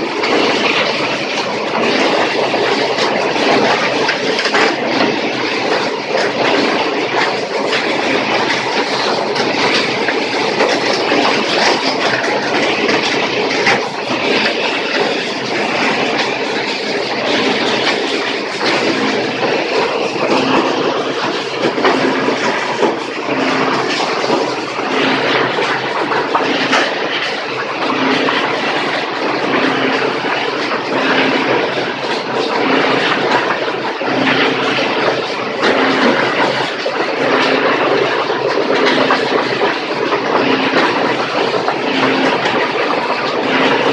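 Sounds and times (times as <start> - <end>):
plastic crusher rattling and cracking: 0.0 - 43.9.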